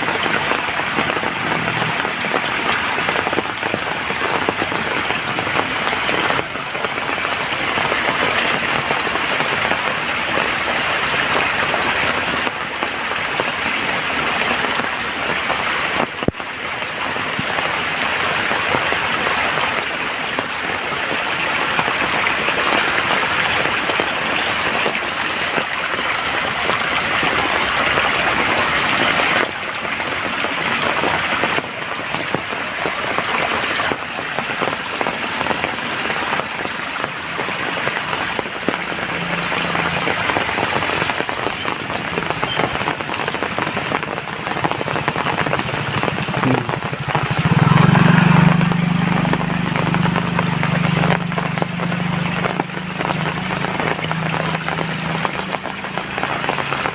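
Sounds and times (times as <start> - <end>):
heavy rain pattering: 0.0 - 56.9
motor vehicle approaching: 0.0 - 56.9.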